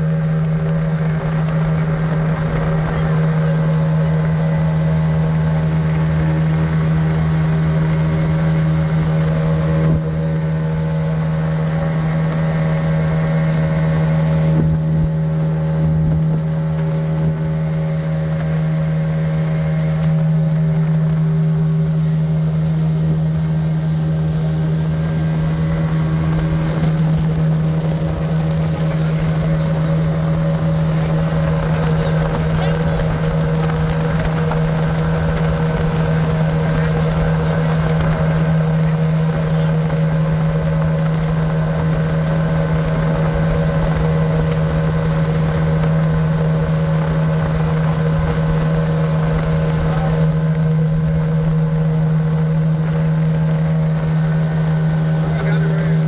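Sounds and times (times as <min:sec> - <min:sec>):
motorboat engine droning: 0:00.0 - 0:56.0.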